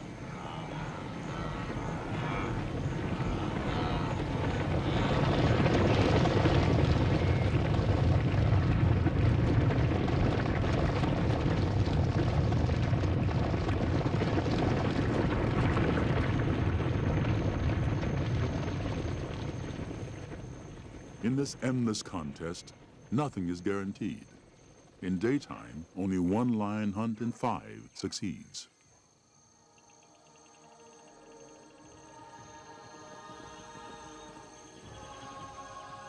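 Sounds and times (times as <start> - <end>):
rumble of stampeding hooves: 0.0 - 26.4, 31.4 - 36.0.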